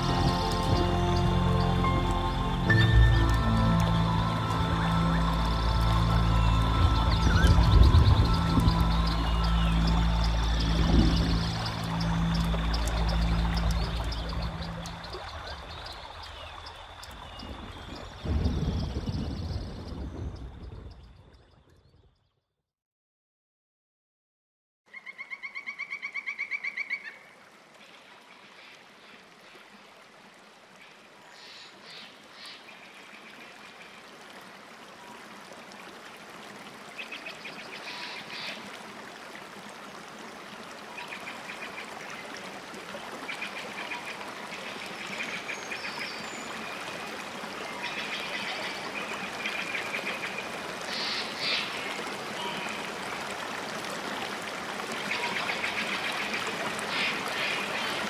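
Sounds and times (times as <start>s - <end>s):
running water: 0.0s - 21.7s, 27.2s - 58.0s.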